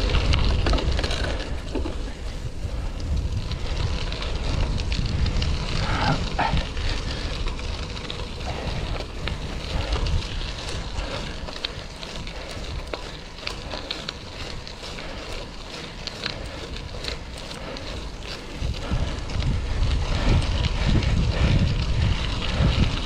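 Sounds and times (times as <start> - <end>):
tyres rolling on gravel: 0.0 - 23.0
wind rumbling over microphone: 0.0 - 23.0.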